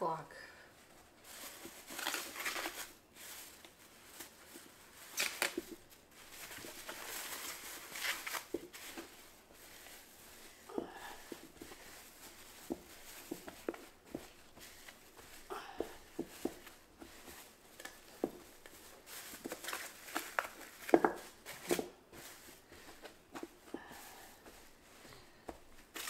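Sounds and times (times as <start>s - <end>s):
plastic bag crinkling: 0.8s - 26.0s.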